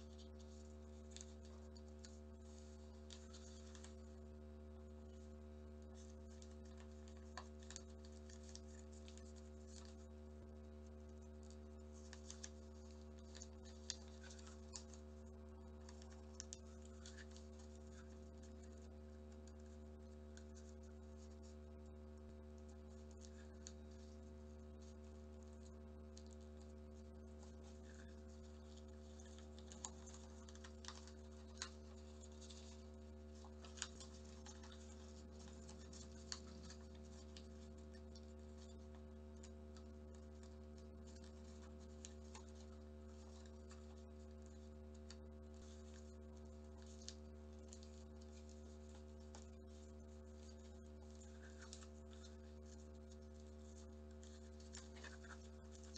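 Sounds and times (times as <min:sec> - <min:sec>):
steady low hum: 0:00.0 - 0:55.9
paper being folded and creased: 0:00.4 - 0:04.1, 0:05.1 - 0:21.6, 0:22.6 - 0:55.9.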